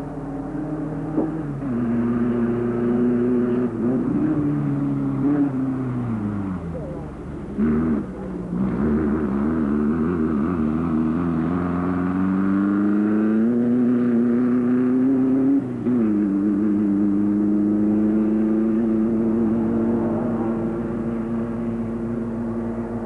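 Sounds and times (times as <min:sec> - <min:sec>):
race vehicle engine running: 0:00.0 - 0:23.0.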